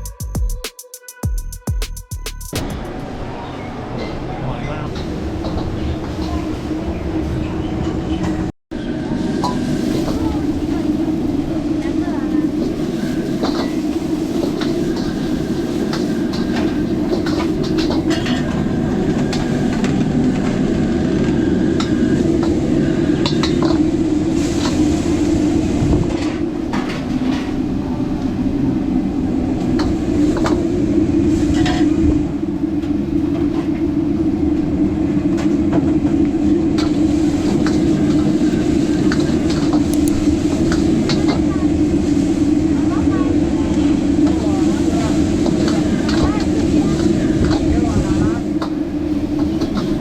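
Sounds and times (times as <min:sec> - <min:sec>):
loud steady cooking roar: 0:08.7 - 0:50.0.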